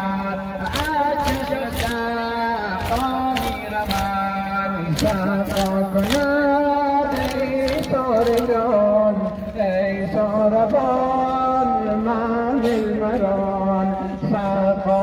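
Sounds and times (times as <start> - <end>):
mourning lament chanted: 0.0 - 15.0.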